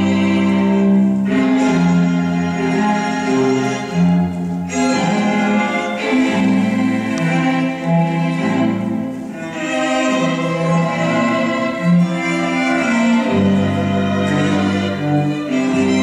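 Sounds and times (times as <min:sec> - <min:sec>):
low cello line: 0:00.0 - 0:16.0
orchestral bowed strings: 0:00.0 - 0:16.0.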